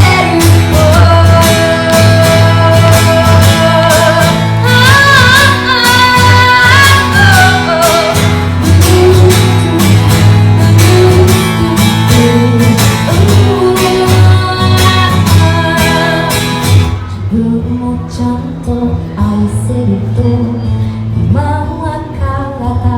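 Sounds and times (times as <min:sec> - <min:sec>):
acoustic guitar strumming: 0:00.0 - 0:22.9.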